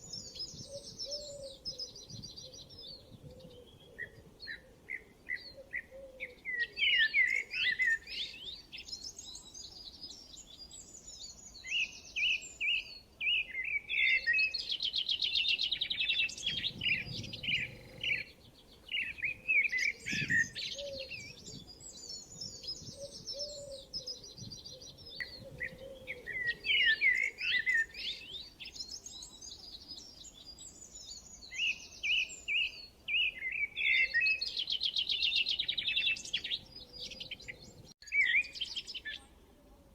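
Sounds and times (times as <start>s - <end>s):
songbirds twittering and trilling: 0.0s - 39.5s.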